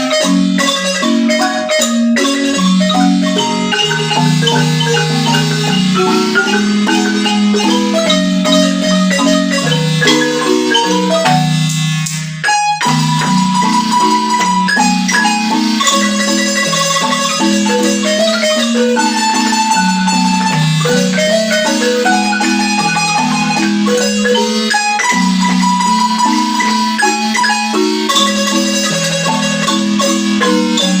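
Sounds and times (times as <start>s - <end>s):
marimba music: 0.0s - 31.0s.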